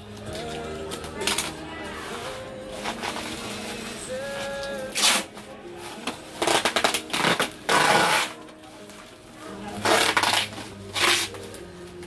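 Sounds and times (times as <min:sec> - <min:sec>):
bubble wrap crinkling: 0:00.0 - 0:11.7.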